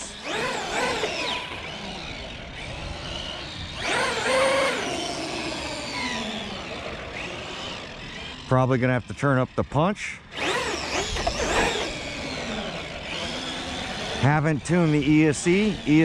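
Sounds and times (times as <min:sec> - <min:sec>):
rc truck motor whining: 0:00.0 - 0:16.0.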